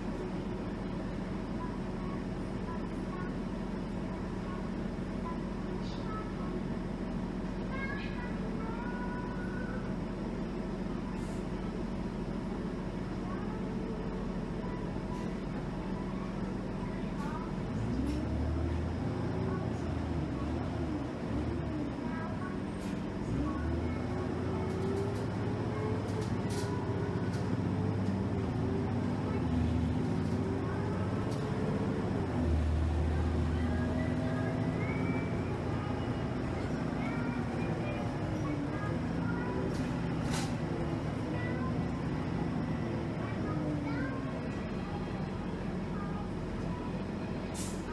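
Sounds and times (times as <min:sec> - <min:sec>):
bus engine drone: 0:00.0 - 0:47.9
road rumble: 0:00.0 - 0:47.9.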